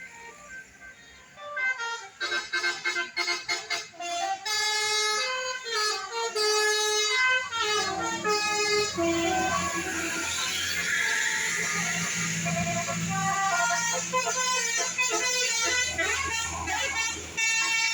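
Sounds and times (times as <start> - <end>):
multi-tone air horn melody: 0.0 - 17.9.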